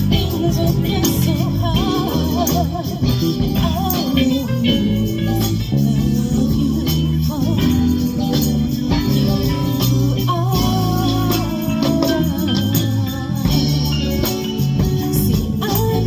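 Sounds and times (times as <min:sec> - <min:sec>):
bass guitar: 0:00.0 - 0:16.0
percussion: 0:00.0 - 0:16.0
person singing: 0:00.0 - 0:16.0
plucked guitar: 0:00.0 - 0:16.0.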